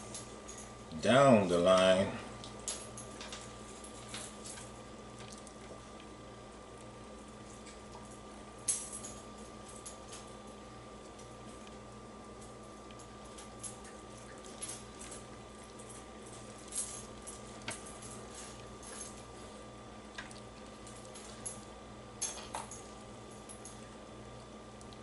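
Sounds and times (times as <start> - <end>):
steady electrical hum: 0.0 - 25.0.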